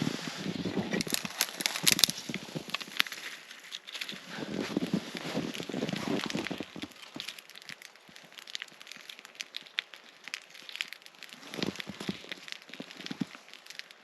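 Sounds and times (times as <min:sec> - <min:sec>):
dense rustling and crunching: 0:00.0 - 0:14.0
sharp crackles and clicks: 0:00.0 - 0:14.0.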